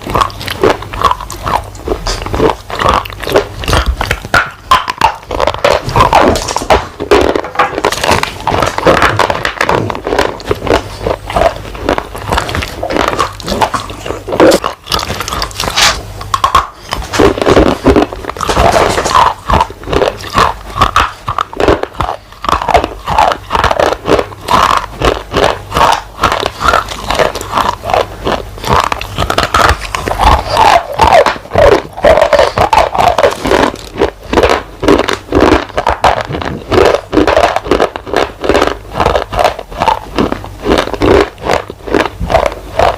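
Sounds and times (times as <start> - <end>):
person crunching hard food: 0.0 - 42.9.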